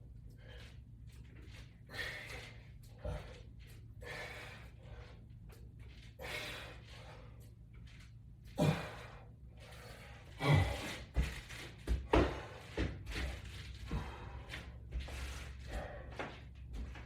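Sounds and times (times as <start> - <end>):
man breathing hard: 0.2 - 7.6, 8.5 - 11.4, 12.0 - 17.0.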